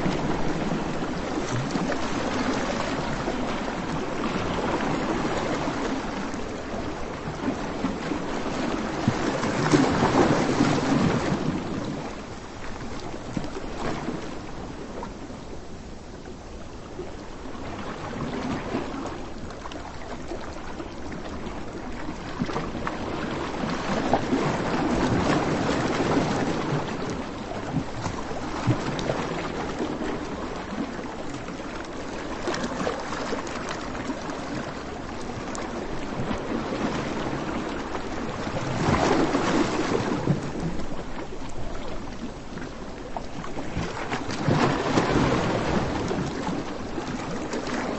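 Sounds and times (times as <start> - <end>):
surf washing on a beach: 0.0 - 47.9.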